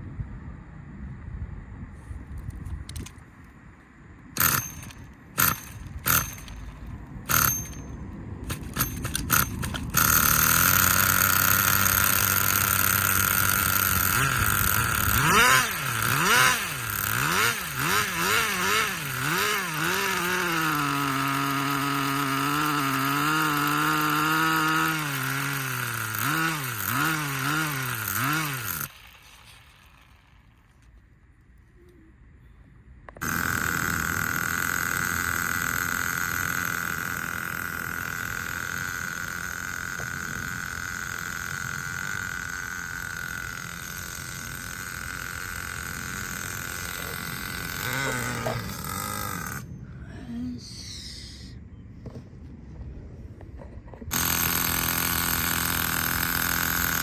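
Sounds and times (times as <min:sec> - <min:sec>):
rc car engine buzzing: 0:04.4 - 0:31.0, 0:33.1 - 0:52.2, 0:54.0 - 0:57.0.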